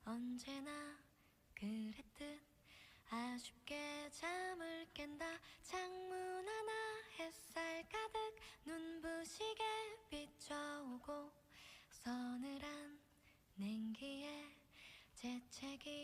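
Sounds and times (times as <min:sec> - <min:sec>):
woman singing slow melody: 0:00.0 - 0:02.5, 0:03.1 - 0:14.6, 0:15.2 - 0:16.0.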